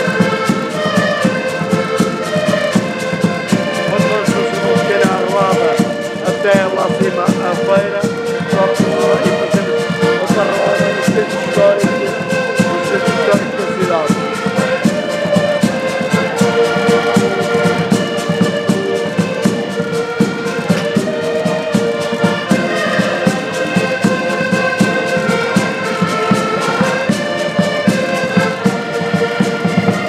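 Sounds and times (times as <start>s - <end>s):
accordions playing a tune: 0.0s - 30.0s
percussion clicks: 0.0s - 30.0s.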